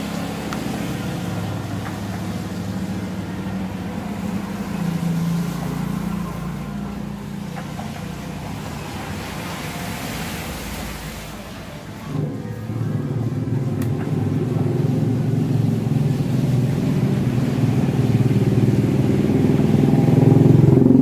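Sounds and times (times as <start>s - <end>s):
refrigerator compressor humming: 0.0s - 21.0s.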